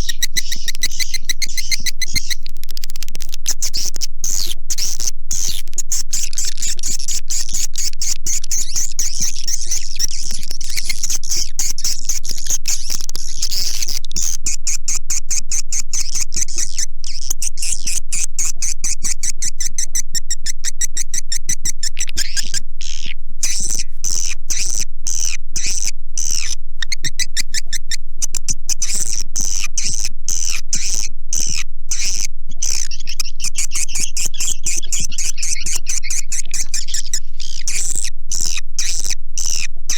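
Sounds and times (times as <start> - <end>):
lower bird chirping: 0.0 - 2.5, 3.2 - 39.9
high-pitched bird twittering: 0.0 - 39.7.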